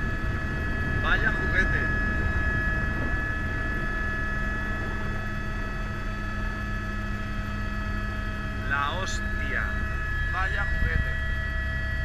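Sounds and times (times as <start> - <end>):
helicopter high whine: 0.0 - 12.0
helicopter low drone: 0.0 - 12.0.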